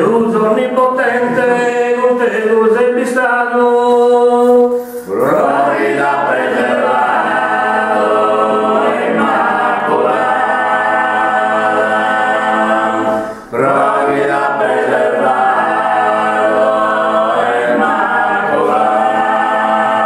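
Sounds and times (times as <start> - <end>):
men's choir singing in harmony: 0.0 - 20.0.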